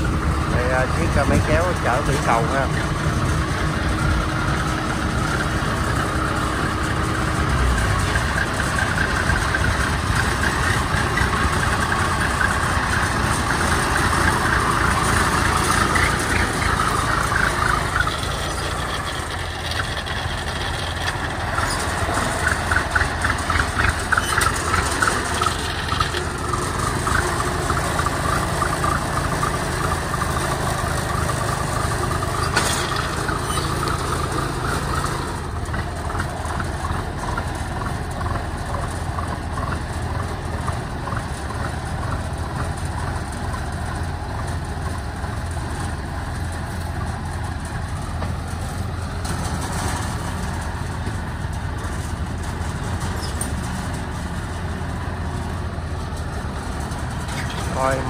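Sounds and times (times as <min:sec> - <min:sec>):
tracked carrier engine running: 0:00.0 - 0:58.0.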